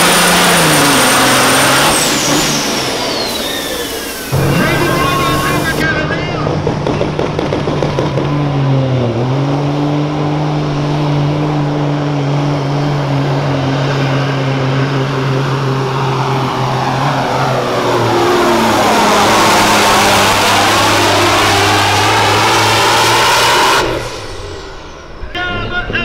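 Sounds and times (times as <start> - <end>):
diesel truck engine under load: 0.0 - 26.0.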